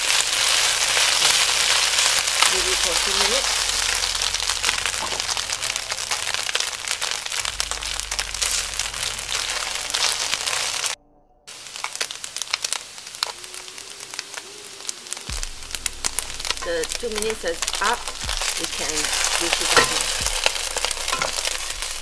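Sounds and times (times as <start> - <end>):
noodles sizzling in hot oil: 0.0 - 22.0.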